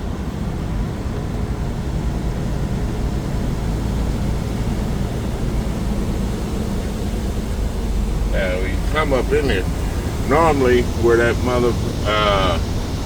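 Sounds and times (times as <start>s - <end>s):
road noise: 0.0s - 13.0s
truck diesel engine running: 0.0s - 13.0s.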